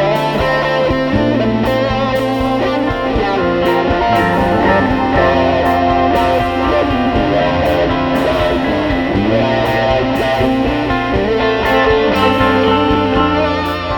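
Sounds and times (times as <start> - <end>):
electric guitar instrumental music: 0.0 - 13.9.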